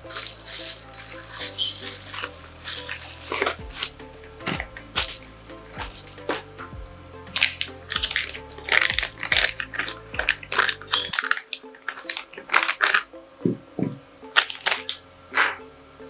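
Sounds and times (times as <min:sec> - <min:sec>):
plastic bag crinkling: 0:00.0 - 0:06.5, 0:07.4 - 0:13.1, 0:14.4 - 0:15.6.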